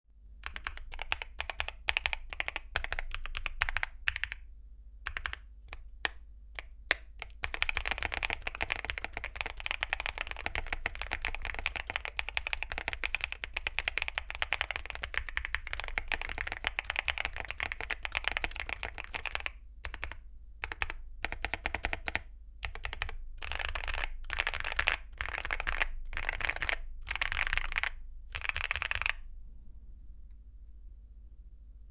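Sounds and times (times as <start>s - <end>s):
typing on mechanical keyboard: 0.4s - 4.4s, 5.1s - 29.2s.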